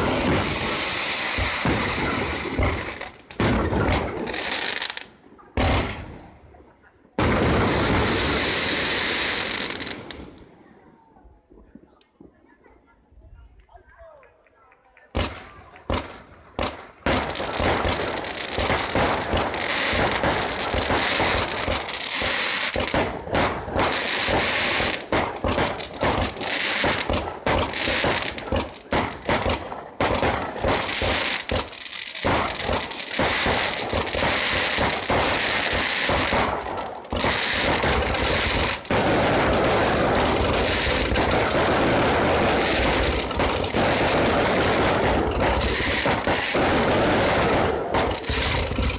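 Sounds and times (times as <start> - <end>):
fireworks banging and crackling: 0.0 - 10.6, 14.9 - 48.9.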